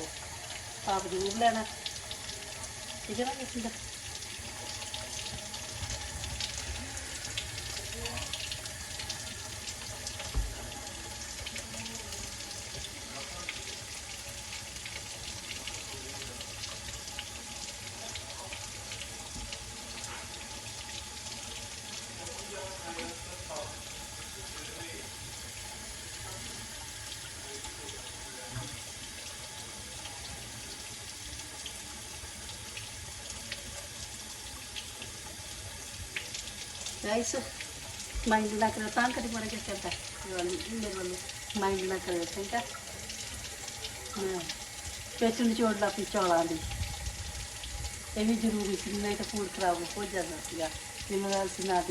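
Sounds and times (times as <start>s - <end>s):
tap running into sink: 0.0s - 24.7s, 25.6s - 30.9s, 37.6s - 51.9s
rice being rinsed: 0.0s - 51.9s.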